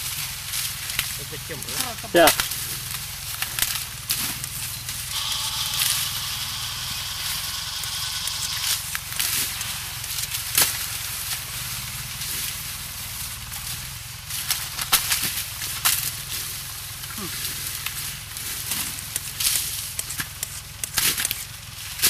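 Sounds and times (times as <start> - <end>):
dry sugarcane rustling and crackling: 0.0 - 22.0
steady low hum: 0.0 - 22.0
blade chopping cane: 0.1 - 11.6, 13.6 - 22.0.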